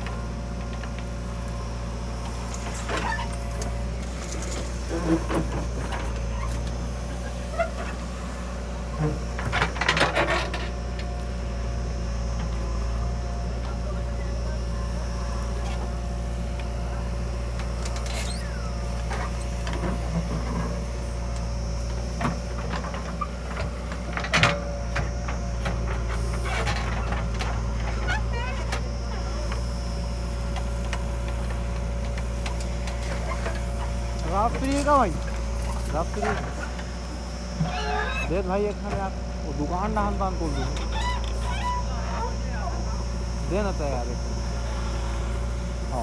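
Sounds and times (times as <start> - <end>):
diesel machinery humming: 0.0 - 46.0.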